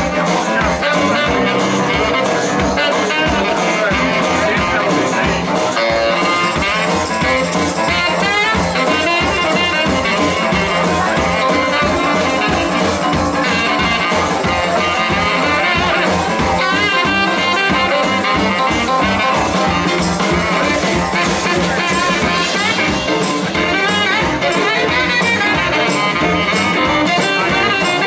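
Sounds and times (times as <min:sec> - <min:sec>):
drum kit: 0:00.0 - 0:28.0
electric guitar: 0:00.0 - 0:28.0
horns: 0:00.0 - 0:28.0.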